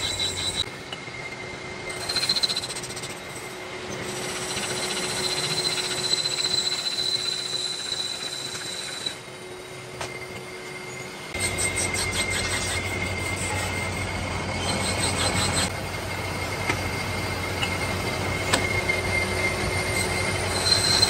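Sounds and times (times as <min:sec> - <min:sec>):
cutting tool squealing on metal: 0:00.0 - 0:15.8, 0:16.4 - 0:21.0.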